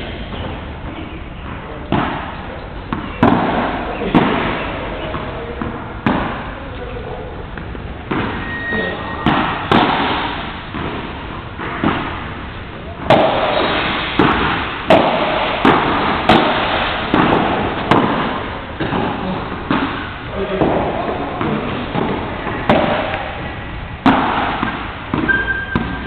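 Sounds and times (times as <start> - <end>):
paddle rackets hitting ball: 0.3 - 6.6, 7.5 - 26.0.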